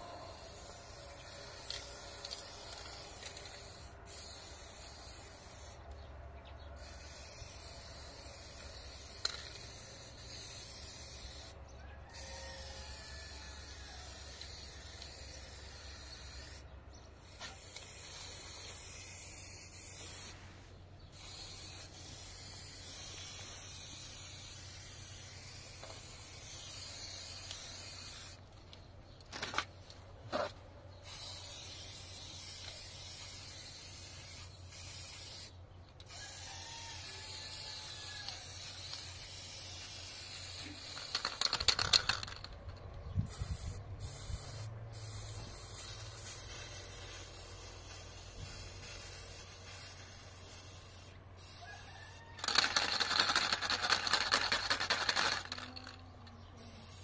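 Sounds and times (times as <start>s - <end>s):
spray-paint can hissing: 0.0s - 5.8s, 6.8s - 28.8s, 31.0s - 57.0s.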